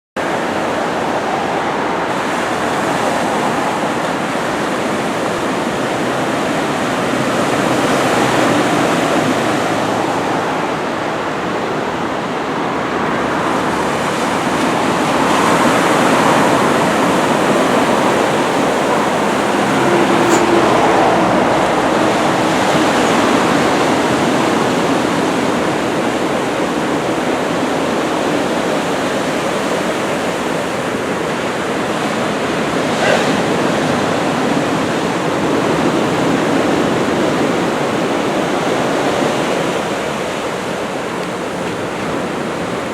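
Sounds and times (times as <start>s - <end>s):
ocean waves breaking: 0.2s - 42.9s.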